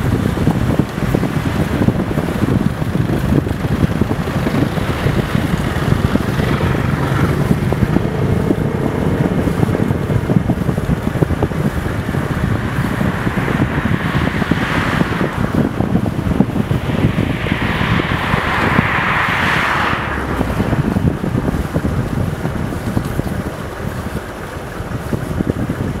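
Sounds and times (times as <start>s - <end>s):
vehicle passing close by: 0.0s - 23.4s
traffic and tyres on wet road: 0.0s - 26.0s
wind buffeting microphone: 0.0s - 26.0s.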